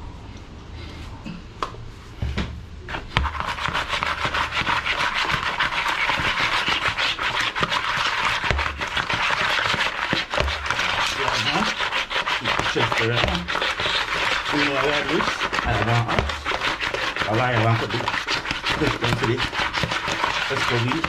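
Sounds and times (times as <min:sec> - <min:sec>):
fish sliding in plastic bowl: 0:02.9 - 0:21.0.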